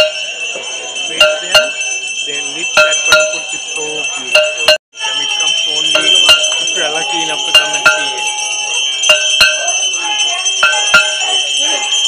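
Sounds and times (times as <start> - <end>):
bells ringing: 0.0 - 12.0
voices chanting: 0.0 - 12.0.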